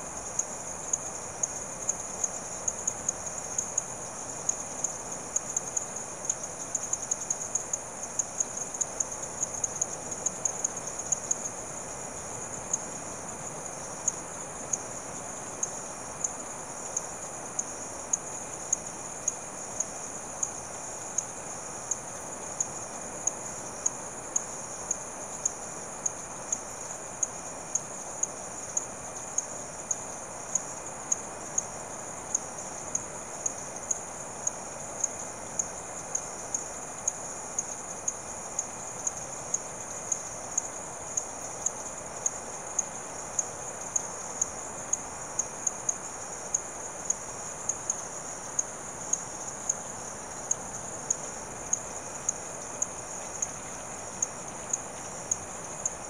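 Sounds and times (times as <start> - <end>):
high-pitched insect trill: 0.0 - 56.0.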